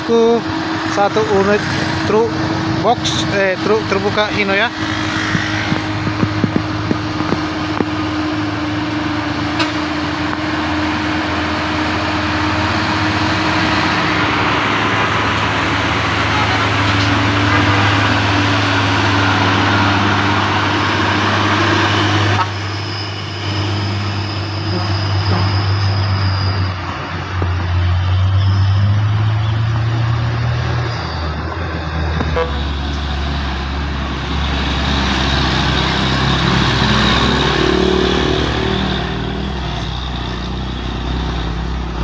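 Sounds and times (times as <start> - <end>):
truck diesel engines labouring: 0.0 - 42.0.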